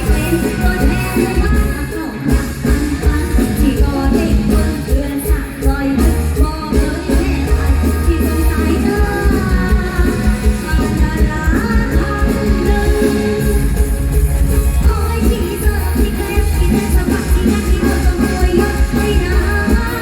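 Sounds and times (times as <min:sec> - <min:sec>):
person singing: 0:00.0 - 0:14.2, 0:14.8 - 0:20.0
live band music: 0:00.0 - 0:20.0.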